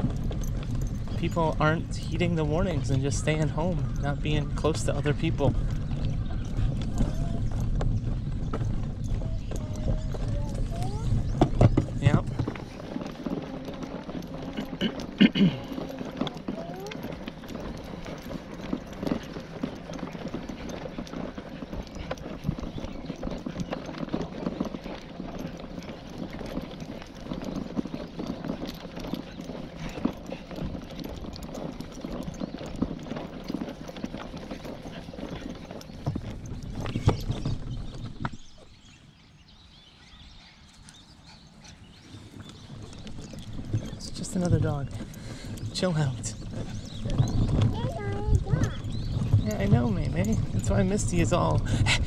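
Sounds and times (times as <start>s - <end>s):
stroller frame rattling: 0.0s - 52.0s
stroller wheels rolling on asphalt: 0.0s - 52.0s.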